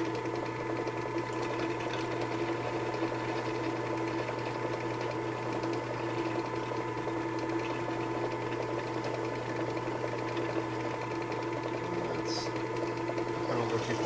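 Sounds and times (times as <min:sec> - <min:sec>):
drill press motor humming: 0:00.0 - 0:14.0.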